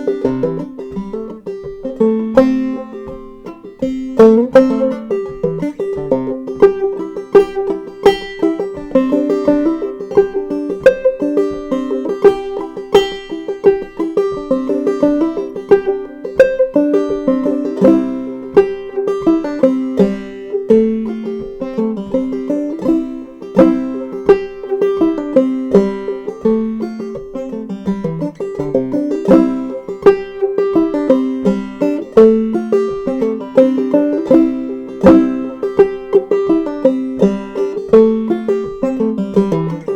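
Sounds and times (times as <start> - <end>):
banjo playing: 0.0 - 39.9.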